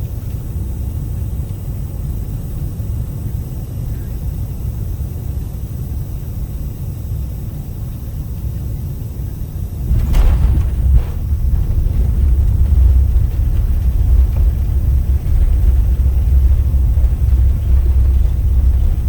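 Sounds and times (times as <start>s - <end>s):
airliner cabin rumble and hiss: 0.0s - 19.0s.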